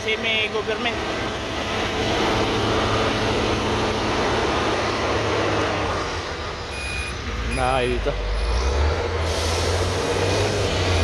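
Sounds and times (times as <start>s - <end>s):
motor grader diesel engine: 0.0s - 11.0s
truck moving: 0.0s - 11.0s.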